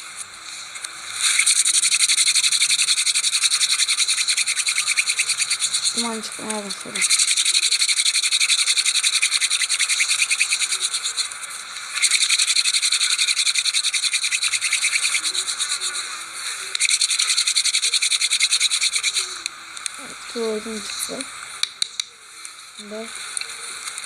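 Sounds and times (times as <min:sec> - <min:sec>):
insects trilling loudly: 0:01.1 - 0:23.9.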